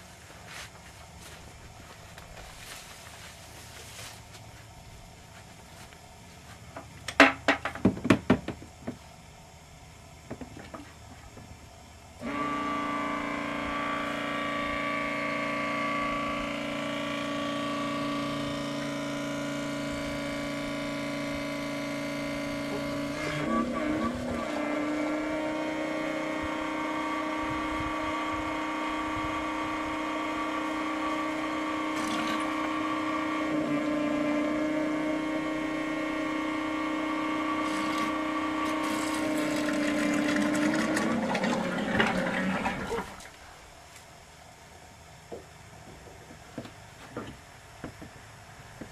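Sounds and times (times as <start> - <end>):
electric pump humming: 0.0 - 48.9.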